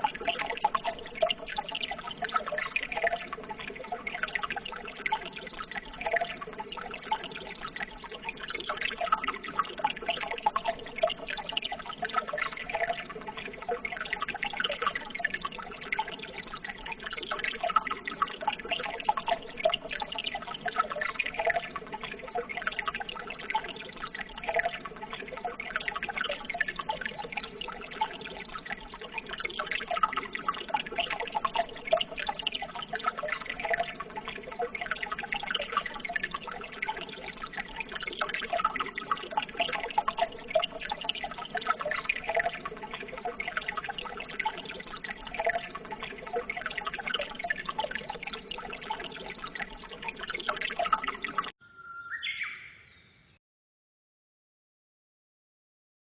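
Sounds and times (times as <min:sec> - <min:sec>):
running water babbling: 0:00.0 - 0:51.5.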